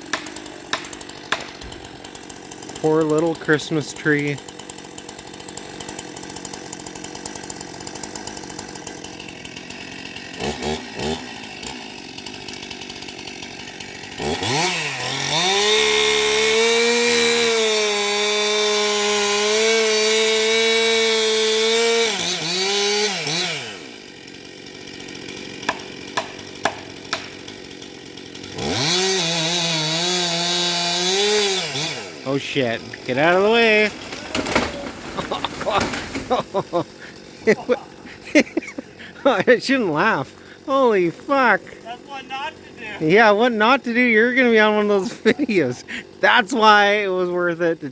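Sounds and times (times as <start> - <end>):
chainsaw cutting a trunk: 0.0 - 47.9
chainsaw idling and revving: 0.0 - 47.9.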